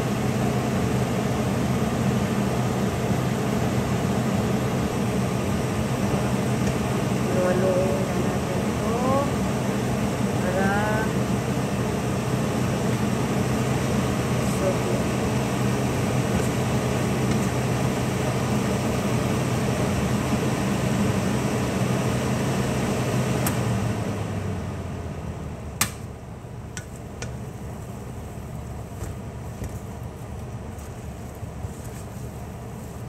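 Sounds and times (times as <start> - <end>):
appliance motor humming: 0.0 - 33.0.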